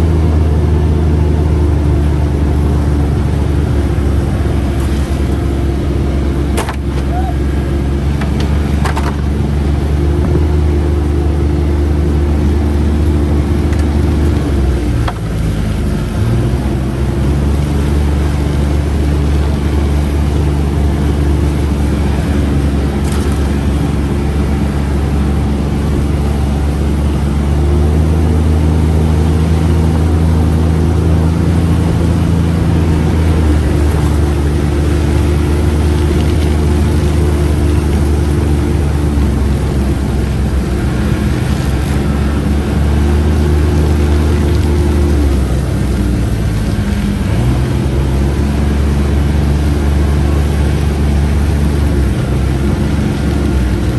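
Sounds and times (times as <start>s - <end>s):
utility vehicle engine running: 0.0s - 53.9s.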